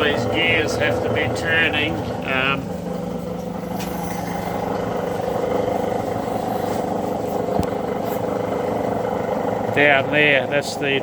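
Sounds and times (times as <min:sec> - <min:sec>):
metal shaper mechanical hum: 0:00.0 - 0:11.0.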